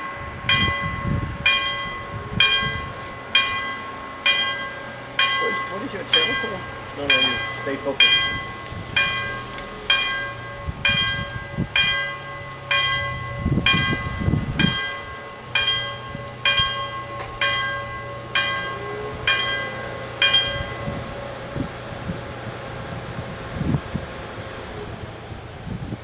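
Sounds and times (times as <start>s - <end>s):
bell struck ringing: 0.0s - 21.3s.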